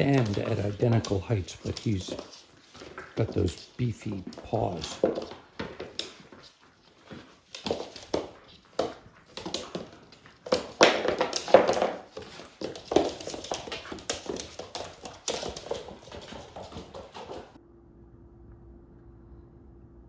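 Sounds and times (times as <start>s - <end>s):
dogs play-fighting noises: 0.0s - 17.6s
paws scrabbling on hard floor: 0.0s - 17.6s.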